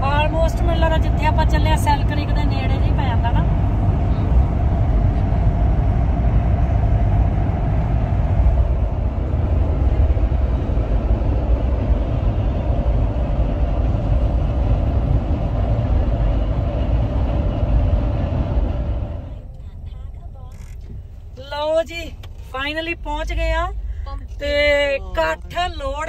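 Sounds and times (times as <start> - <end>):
road and engine noise in car cabin: 0.0 - 26.0.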